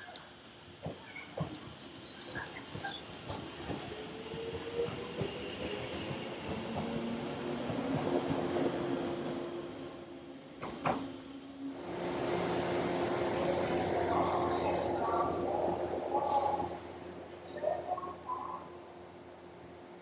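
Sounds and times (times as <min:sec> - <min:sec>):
train electric hum: 0:00.0 - 0:20.0.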